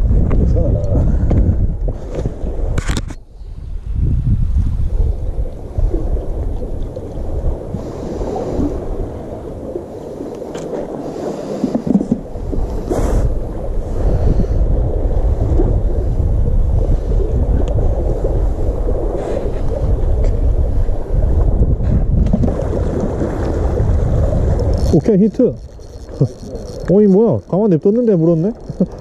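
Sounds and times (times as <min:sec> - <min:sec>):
wind buffeting the microphone: 0:00.0 - 0:29.0
sea waves washing: 0:04.9 - 0:29.0.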